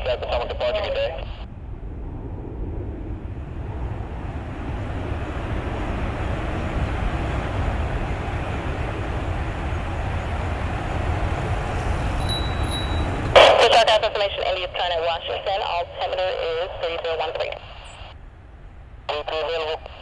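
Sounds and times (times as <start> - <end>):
jet engines roaring: 0.0 - 18.2.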